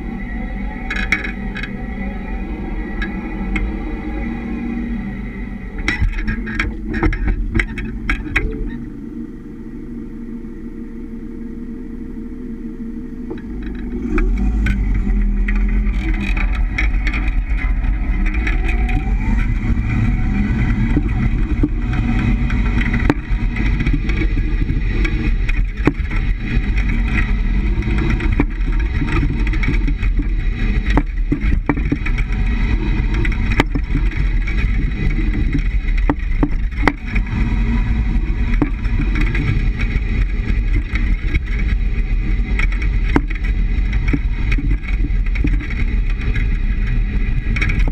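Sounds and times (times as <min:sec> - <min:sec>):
road and tyre rumble: 0:00.0 - 0:47.9.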